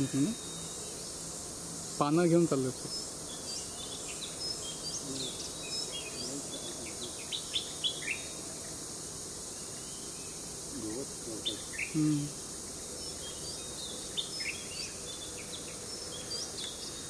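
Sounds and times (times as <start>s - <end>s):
birds chirping: 0.0s - 17.0s
steady high hiss: 0.0s - 17.0s.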